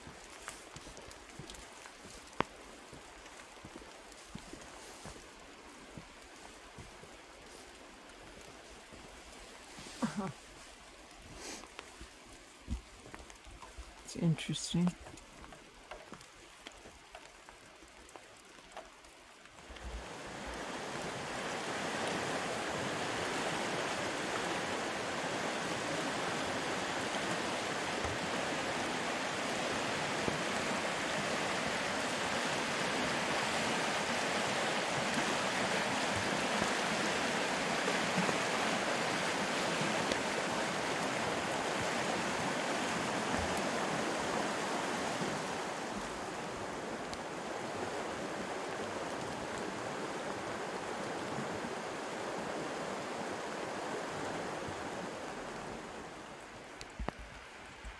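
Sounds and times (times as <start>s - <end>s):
rushing creek rapids: 0.0s - 57.9s.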